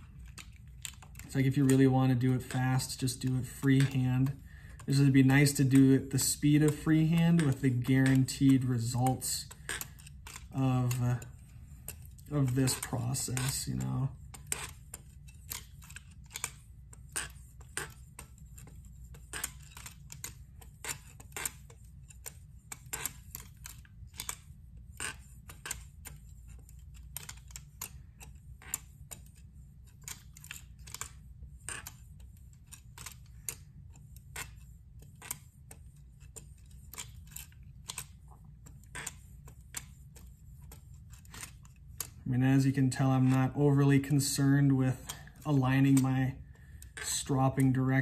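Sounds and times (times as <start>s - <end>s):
knife stropping clicks and scrapes: 0.0s - 48.0s
steady low hum: 0.0s - 48.0s.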